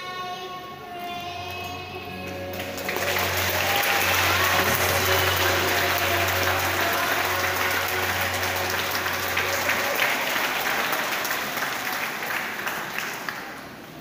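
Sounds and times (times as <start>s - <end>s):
audience applauding: 2.3s - 14.0s.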